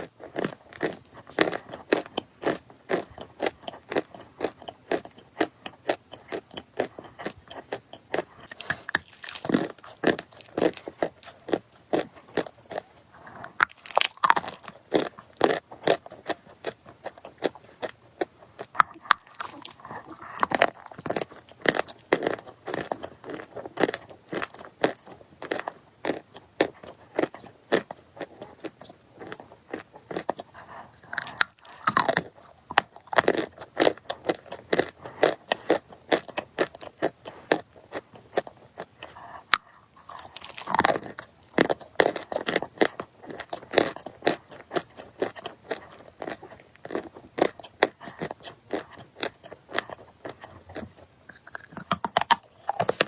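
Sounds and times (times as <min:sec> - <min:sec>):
dry clay crunching: 0:00.0 - 0:53.0.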